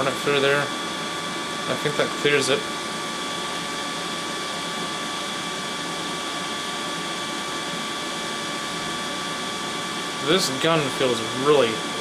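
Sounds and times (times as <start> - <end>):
vacuum pump whirring hiss: 0.0 - 12.0.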